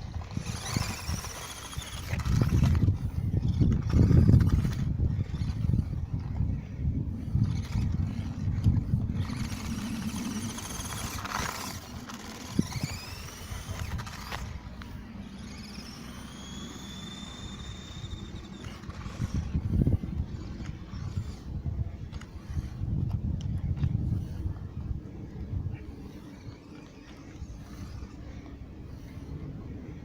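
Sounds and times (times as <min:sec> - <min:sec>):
toy electric motor whining: 0:00.0 - 0:30.0.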